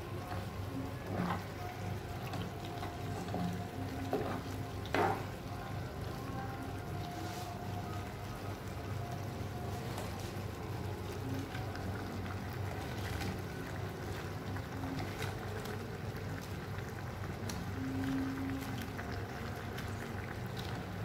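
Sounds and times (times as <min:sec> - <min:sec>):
stew bubbling in a pan: 0:00.0 - 0:21.0.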